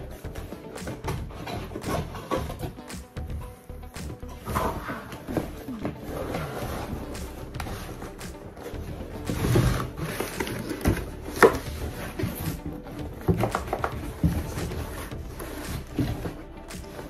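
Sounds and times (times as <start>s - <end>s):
cardboard rustling and scraping: 0.0s - 2.9s, 4.4s - 17.0s.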